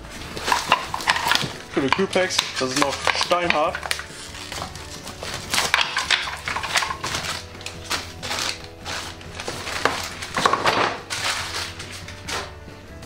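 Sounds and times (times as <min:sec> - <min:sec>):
handling scrapes: 0:00.0 - 0:10.4, 0:11.0 - 0:12.6
background music: 0:00.0 - 0:13.0
padding sheet crinkling: 0:00.2 - 0:12.6.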